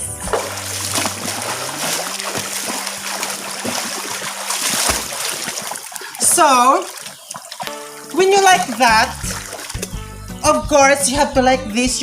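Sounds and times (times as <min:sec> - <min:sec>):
water splashing from swimming: 0:00.0 - 0:10.6.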